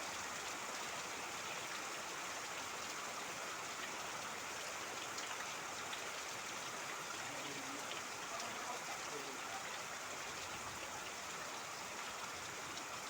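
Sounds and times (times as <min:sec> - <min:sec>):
steady rain: 0:00.0 - 0:13.0
trickling water: 0:00.0 - 0:13.0.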